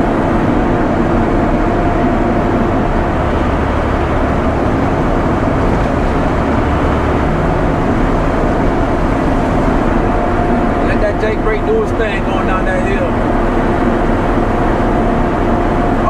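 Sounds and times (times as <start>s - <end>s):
diesel truck engine: 0.0s - 16.0s
road noise: 0.0s - 16.0s.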